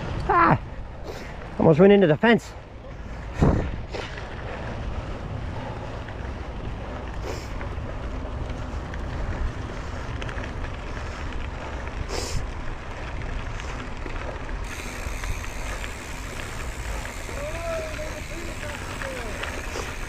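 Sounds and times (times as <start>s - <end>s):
bike clicks and rattles: 0.0s - 20.0s
bike tyres rolling on dirt: 0.0s - 20.0s
wind rumble on microphone: 2.6s - 20.0s.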